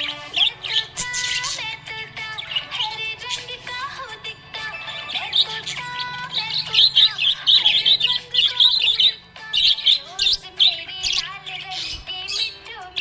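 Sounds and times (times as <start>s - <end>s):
budgerigar chirping and warbling: 0.0s - 13.0s.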